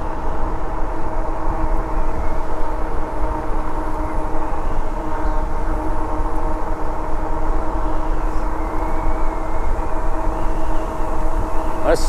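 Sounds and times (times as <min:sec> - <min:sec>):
electric hub motor whine: 0:00.0 - 0:12.0
wind buffeting microphone: 0:00.0 - 0:12.0.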